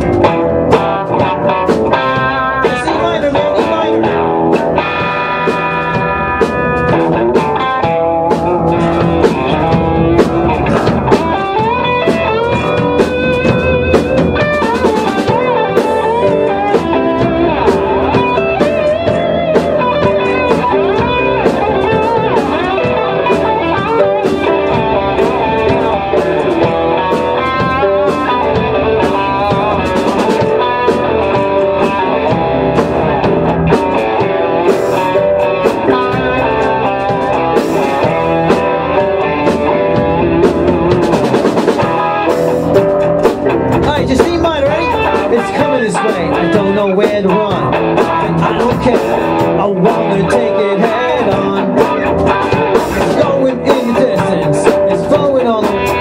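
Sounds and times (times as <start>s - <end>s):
bass guitar: 0.0s - 56.0s
drum kit with cymbal hits: 0.0s - 56.0s
electric guitar lines: 0.0s - 56.0s
electric keyboard: 0.0s - 56.0s.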